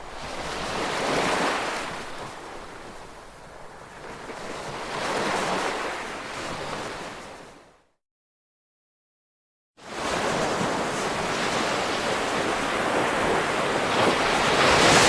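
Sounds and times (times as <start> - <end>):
ocean waves washing on shore: 0.0 - 7.7, 9.8 - 15.0.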